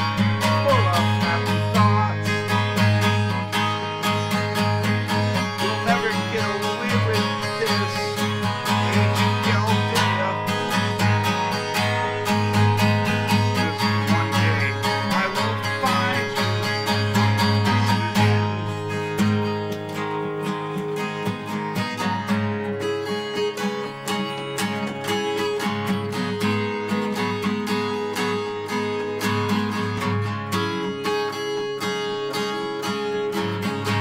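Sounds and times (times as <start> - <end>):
acoustic guitar strumming chords: 0.0 - 34.0.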